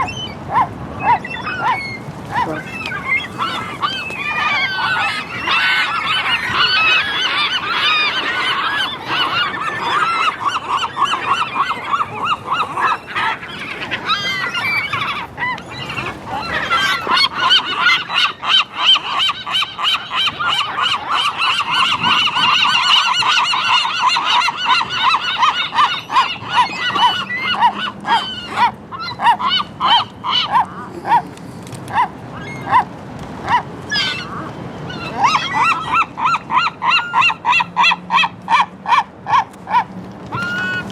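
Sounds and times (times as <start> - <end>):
gulls calling: 0.0 - 40.9.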